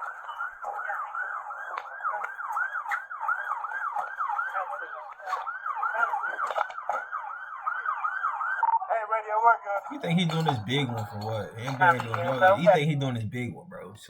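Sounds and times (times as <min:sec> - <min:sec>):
police siren yelping: 0:00.0 - 0:12.9.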